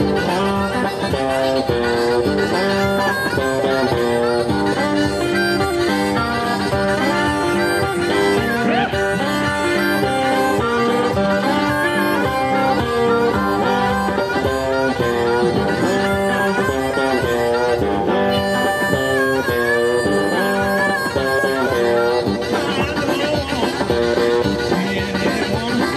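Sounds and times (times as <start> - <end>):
blues harmonica through microphone: 0.0 - 25.9
electric guitar accompaniment: 0.0 - 25.9.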